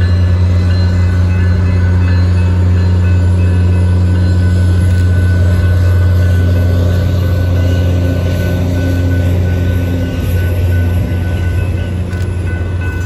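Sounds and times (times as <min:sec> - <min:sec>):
diesel locomotive engine drone: 0:00.0 - 0:13.0
train cars rolling: 0:00.0 - 0:13.0.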